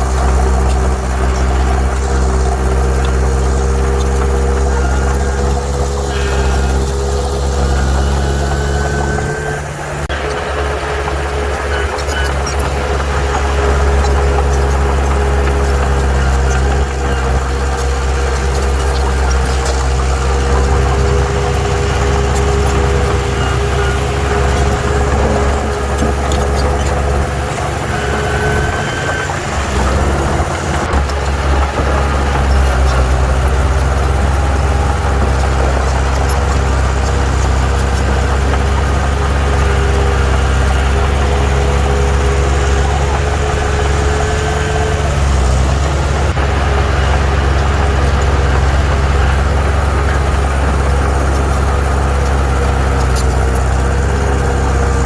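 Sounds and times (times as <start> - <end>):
heavy machinery diesel engine running: 0.0 - 55.0
high wavering whine: 0.0 - 55.0.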